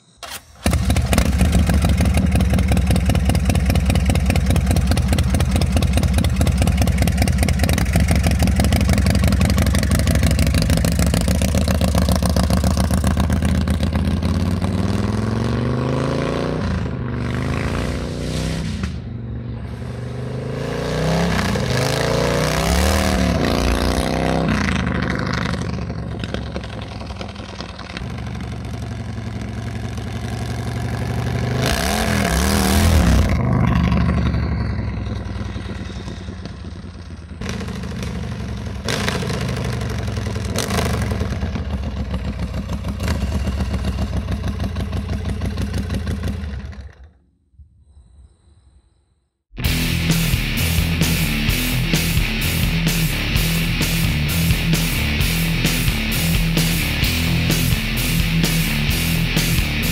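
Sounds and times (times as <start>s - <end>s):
motorcycle engine accelerating: 0.2s - 47.3s, 49.6s - 59.9s.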